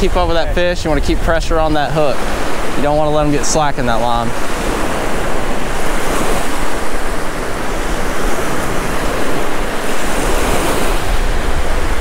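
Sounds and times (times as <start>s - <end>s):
surf waves breaking on beach: 0.0s - 12.0s
wind buffeting microphone: 0.0s - 12.0s.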